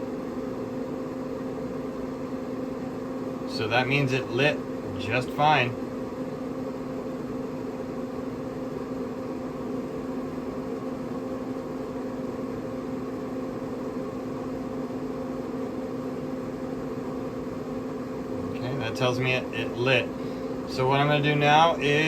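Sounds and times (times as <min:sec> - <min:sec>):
fan hiss: 0:00.0 - 0:22.0
grill motor hum: 0:00.0 - 0:22.0.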